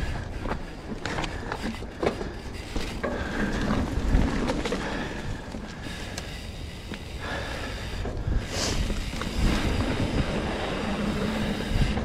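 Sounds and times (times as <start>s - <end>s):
bike knocking and rattling: 0.0s - 12.0s
bike tyres rolling on dirt: 0.0s - 12.0s.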